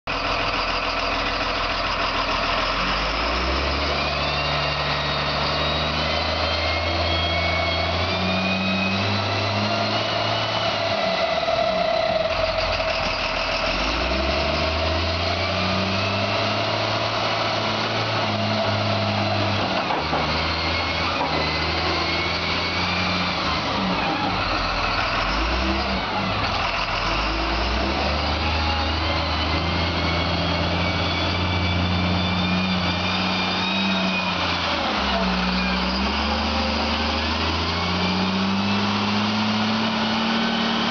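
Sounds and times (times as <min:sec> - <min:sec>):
wheel loader diesel engine revving: 0:00.1 - 0:40.9.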